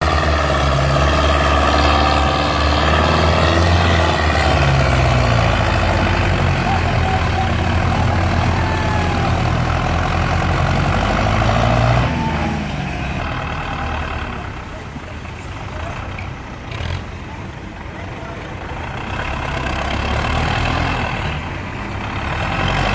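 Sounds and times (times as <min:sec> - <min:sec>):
tractor engine running hard: 0:00.0 - 0:22.9.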